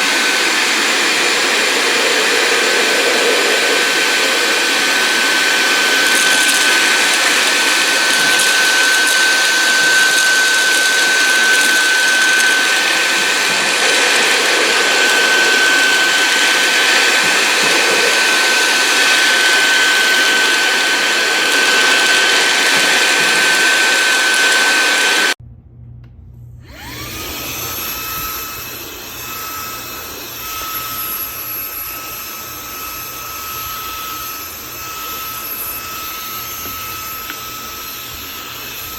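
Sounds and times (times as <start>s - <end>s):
handheld vacuum whining: 0.0s - 25.4s, 26.6s - 38.9s
quieter motor whining: 0.0s - 38.9s.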